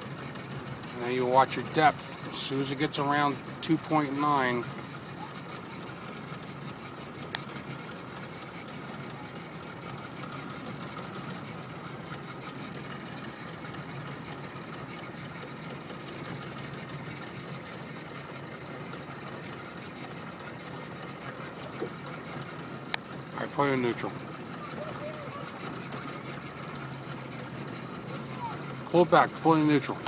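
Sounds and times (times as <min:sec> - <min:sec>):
motorboat engine running: 0:00.0 - 0:30.0.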